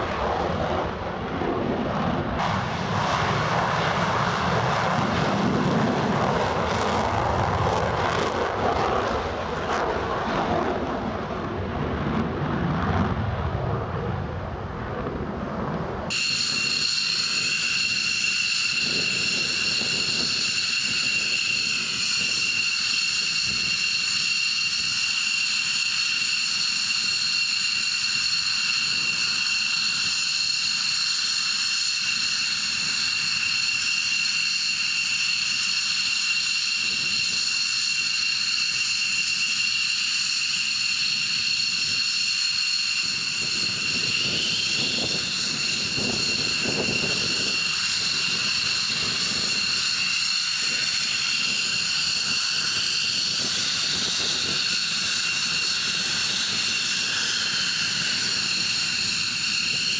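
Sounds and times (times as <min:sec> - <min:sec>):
deep jet engine rumble: 0:00.0 - 0:59.9
jet turbine whine: 0:00.0 - 0:59.9.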